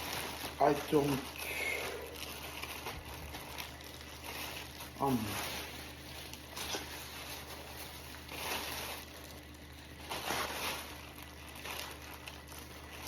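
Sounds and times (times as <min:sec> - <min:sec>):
plastic rain gear rustling: 0:00.0 - 0:13.0
steady low hum: 0:00.0 - 0:13.0.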